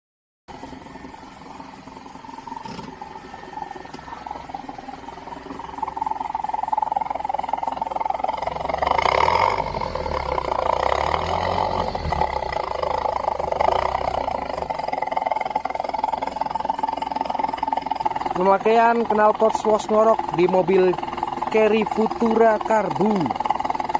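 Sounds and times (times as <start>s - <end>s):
car engine revving: 0.5s - 23.9s.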